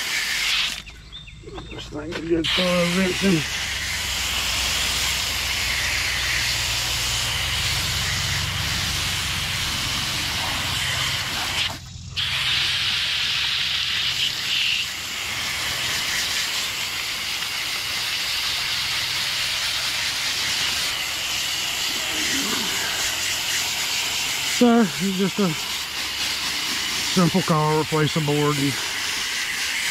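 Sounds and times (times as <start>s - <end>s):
hose water spraying on metal fins: 0.0s - 0.9s, 2.2s - 29.9s.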